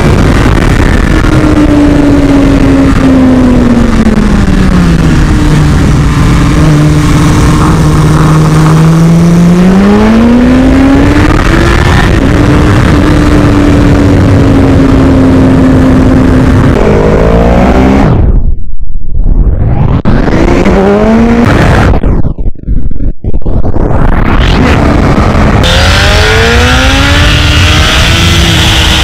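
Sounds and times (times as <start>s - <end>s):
motorcycle engine revving: 0.0s - 18.4s, 19.6s - 22.0s, 24.2s - 29.0s.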